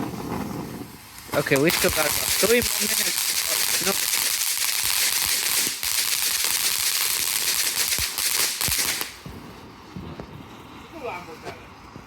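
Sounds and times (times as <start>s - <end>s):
firework pops: 0.0s - 10.7s
firework hissing and crackling: 0.0s - 12.0s.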